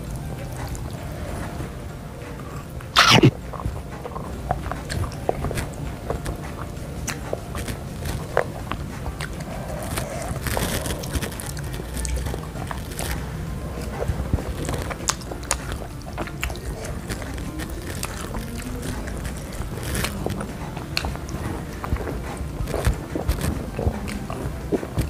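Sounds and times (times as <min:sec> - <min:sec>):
wet chewing: 0:00.0 - 0:25.0
person slurping noodles: 0:02.4 - 0:06.3, 0:07.5 - 0:25.0.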